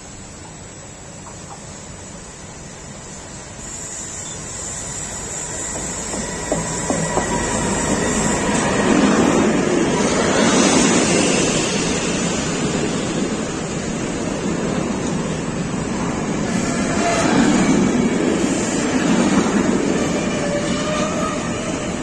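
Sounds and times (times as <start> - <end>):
freight train rolling past: 0.1 - 22.0.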